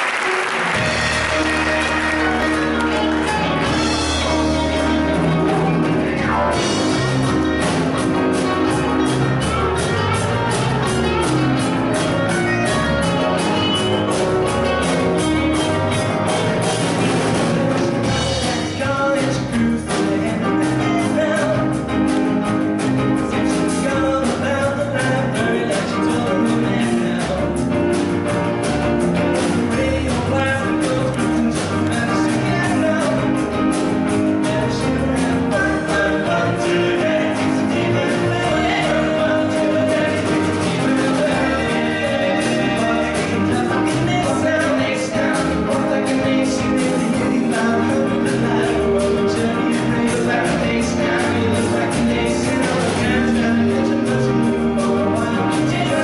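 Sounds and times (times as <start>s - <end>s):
steady driving beat: 0.7s - 23.9s, 25.8s - 56.0s
men's vocal group singing: 0.8s - 9.5s, 13.7s - 22.0s, 23.4s - 27.7s, 29.3s - 56.0s.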